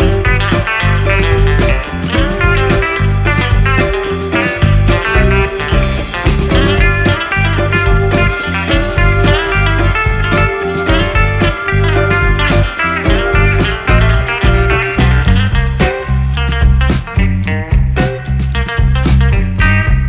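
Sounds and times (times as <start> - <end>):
guitar-led music with heavy bass: 0.0 - 20.0.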